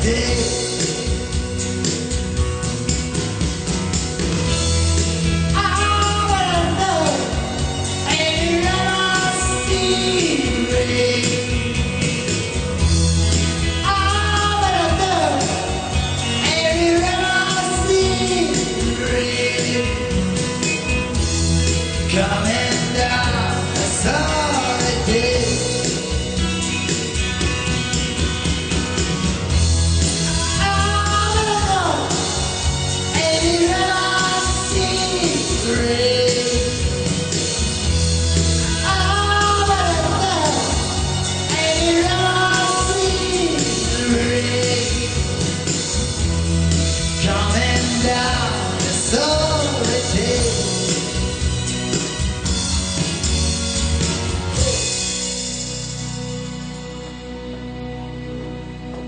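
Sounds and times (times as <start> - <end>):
pop-rock song: 0.0 - 59.0.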